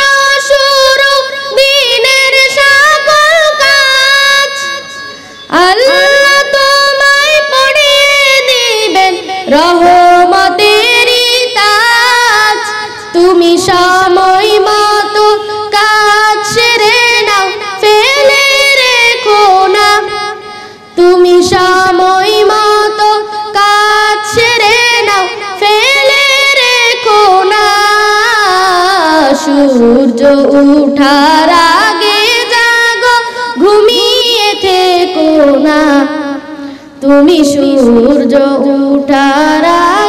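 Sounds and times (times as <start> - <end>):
boy singing solo: 0.0 - 40.0.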